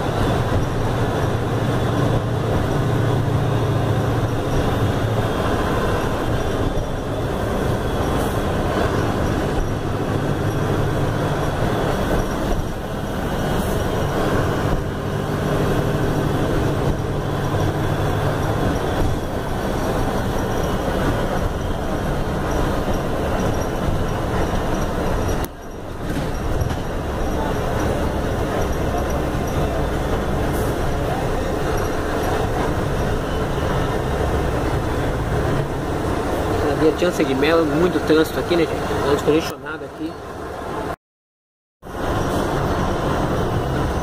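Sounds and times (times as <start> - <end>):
bus diesel engine running: 0.0 - 41.0, 41.8 - 44.0
road noise: 0.0 - 41.0, 41.8 - 44.0.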